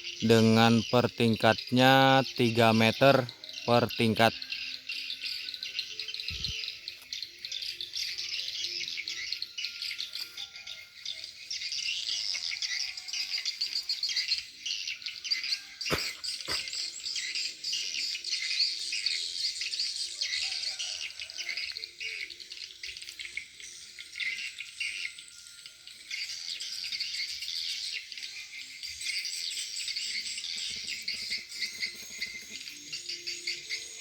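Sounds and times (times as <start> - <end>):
high twittering chirps from speakers: 0.0 - 34.0.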